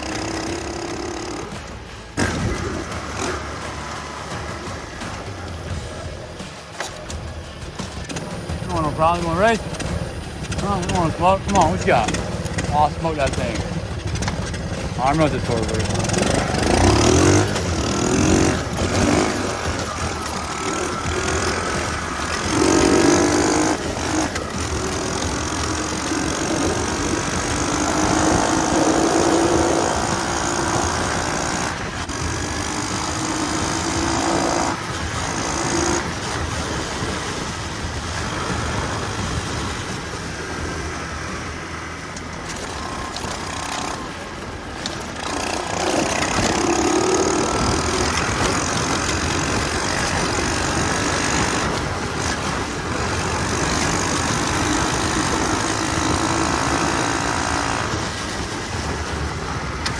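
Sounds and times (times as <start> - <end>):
minibike engine accelerating: 0.0 - 59.9
steady rushing noise: 0.0 - 59.9.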